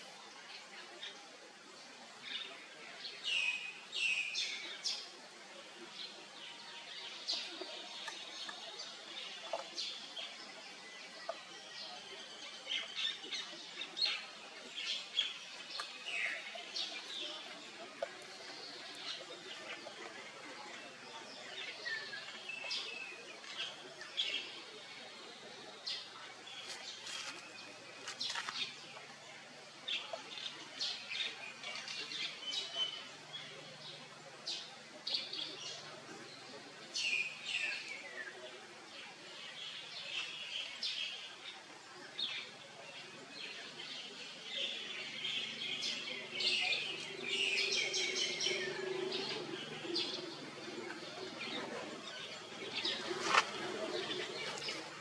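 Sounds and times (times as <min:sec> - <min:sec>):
birds chirping: 0:05.8 - 0:55.0.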